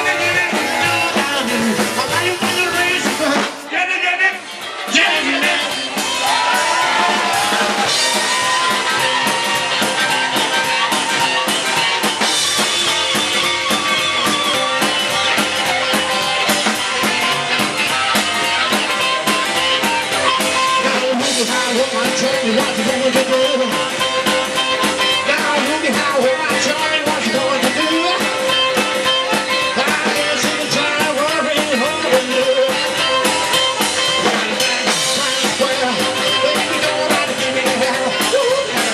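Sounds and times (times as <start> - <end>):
drum kit: 0.0 - 38.9
guitar: 0.0 - 38.9.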